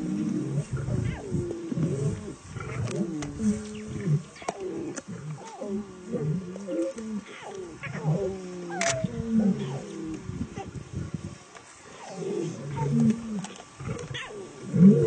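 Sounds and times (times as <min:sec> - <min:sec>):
animals snarling and growling: 0:00.0 - 0:11.2, 0:12.0 - 0:15.0.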